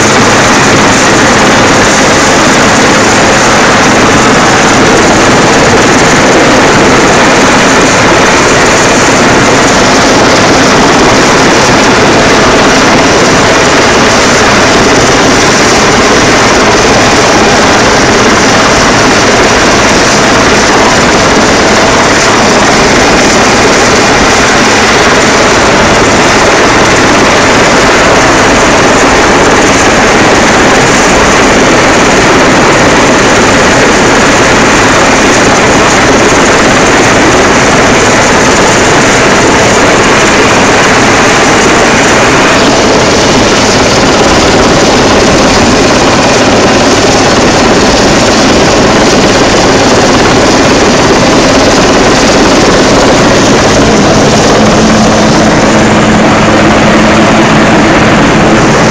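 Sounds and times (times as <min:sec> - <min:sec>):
helicopter hovering: 0:00.0 - 0:58.9
wind buffeting microphone: 0:00.0 - 0:58.9.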